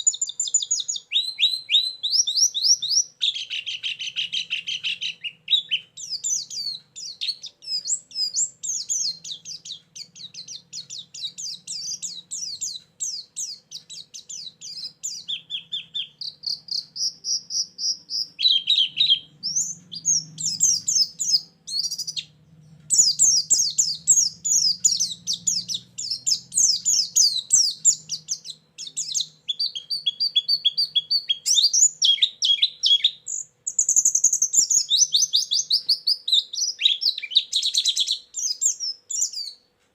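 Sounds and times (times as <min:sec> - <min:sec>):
bird chirping and trilling: 0:00.0 - 0:39.7.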